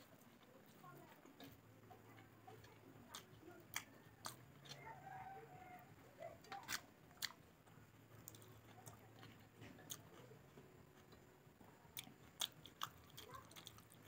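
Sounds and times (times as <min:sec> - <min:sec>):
person chewing food: 0:00.1 - 0:05.2, 0:06.5 - 0:11.3, 0:11.9 - 0:14.0.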